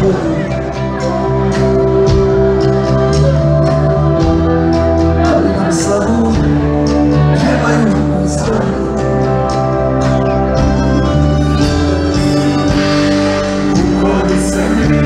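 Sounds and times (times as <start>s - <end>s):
person singing: 0.0s - 10.4s, 11.0s - 15.0s
keyboard chords: 0.0s - 15.0s
live band playing: 0.0s - 15.0s
steady drum beat: 0.0s - 15.0s.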